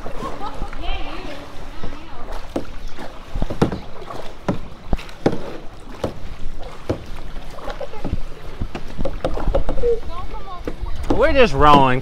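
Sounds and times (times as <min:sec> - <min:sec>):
paddle strokes in water: 0:00.0 - 0:12.0
paddles knocking against kayak hull: 0:01.8 - 0:12.0.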